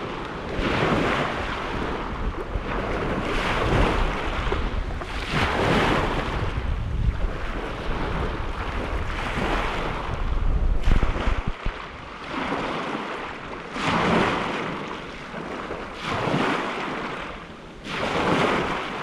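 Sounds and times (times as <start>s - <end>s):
lake waves washing in: 0.0s - 19.0s
wind rumbling on microphone: 0.0s - 19.0s.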